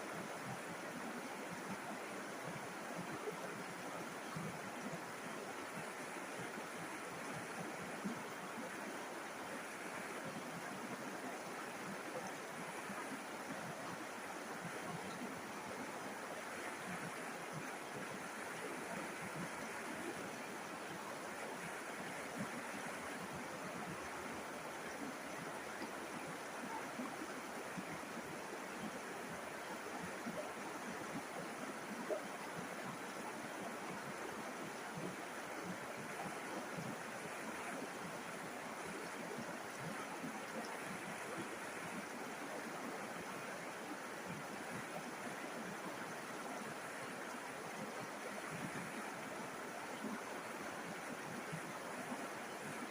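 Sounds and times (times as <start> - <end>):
river flowing over rocks: 0.0 - 52.9.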